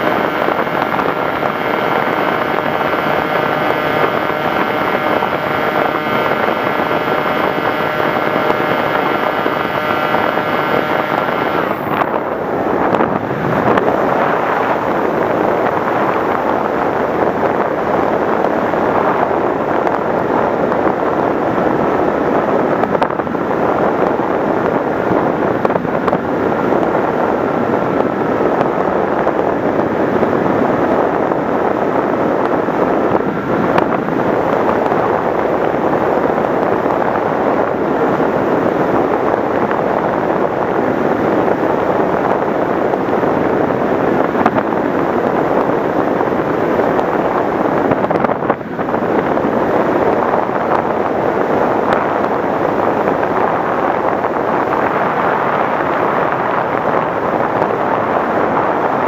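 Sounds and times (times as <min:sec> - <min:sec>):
rushing wind noise: 0:00.0 - 0:59.0.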